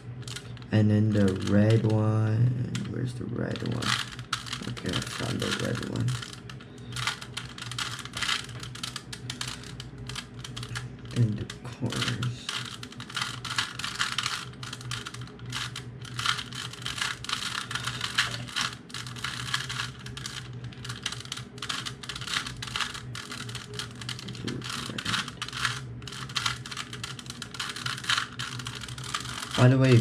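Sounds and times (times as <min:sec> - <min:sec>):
puzzle cube plastic clicks: 0:01.1 - 0:01.9, 0:03.6 - 0:10.8, 0:11.4 - 0:30.0.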